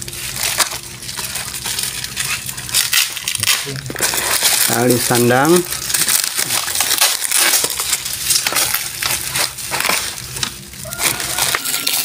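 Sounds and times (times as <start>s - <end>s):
bubble wrap crackling: 0.0s - 12.0s.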